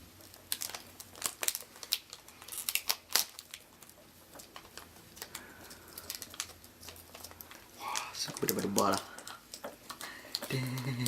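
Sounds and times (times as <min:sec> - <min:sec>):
crinkling crackles: 0:00.0 - 0:11.0.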